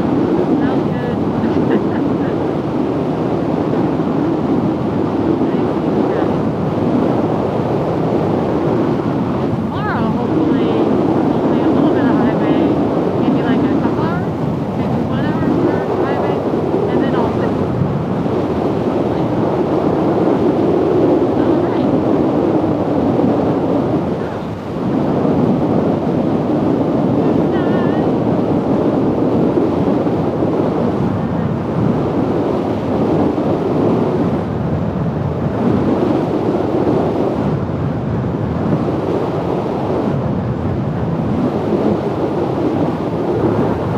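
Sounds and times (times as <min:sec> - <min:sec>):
wind rush on helmet microphone: 0:00.0 - 0:43.9.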